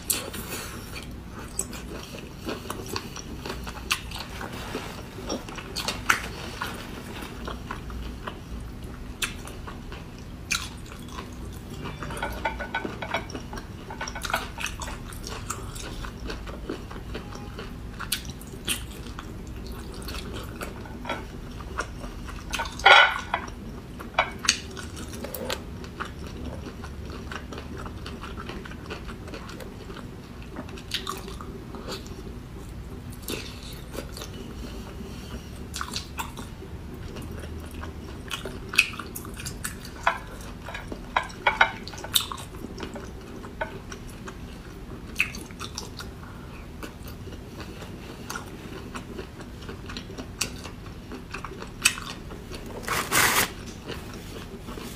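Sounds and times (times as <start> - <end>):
person chewing wetly: 0.1 - 6.3, 7.4 - 54.9.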